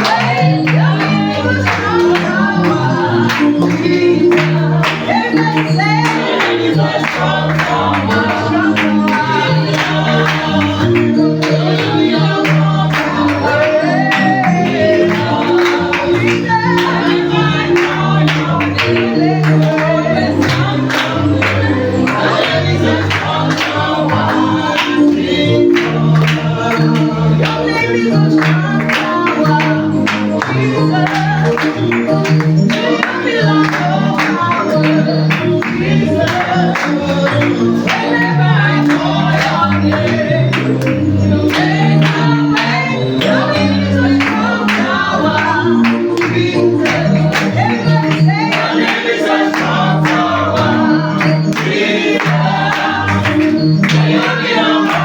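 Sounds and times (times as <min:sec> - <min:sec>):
worship team singing: 0:00.0 - 0:55.0.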